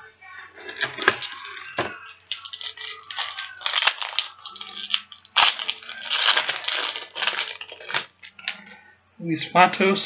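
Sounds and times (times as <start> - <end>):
foil wrapper crinkling: 0.4 - 8.8.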